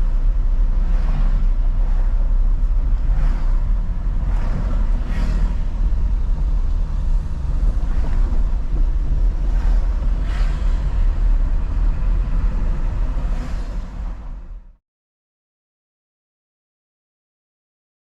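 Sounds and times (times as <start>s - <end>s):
car engine and road rumble: 0.0s - 14.8s.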